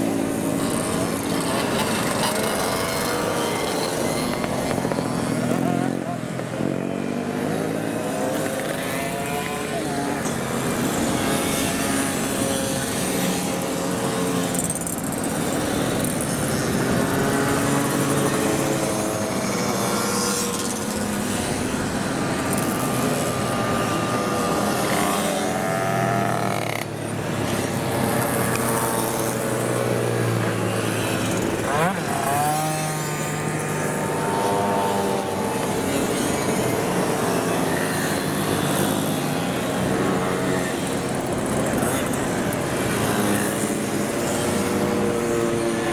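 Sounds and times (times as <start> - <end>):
moped engines passing: 0.0 - 45.9.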